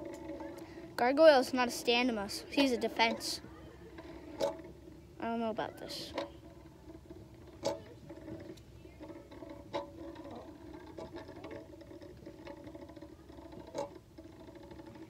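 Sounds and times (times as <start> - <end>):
spinning tops whirring on metal: 0.0 - 15.0.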